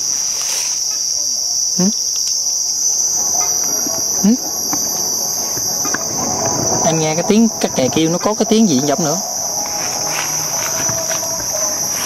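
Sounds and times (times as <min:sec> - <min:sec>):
crickets trilling: 0:00.0 - 0:12.0
low rising gecko call: 0:00.0 - 0:12.0.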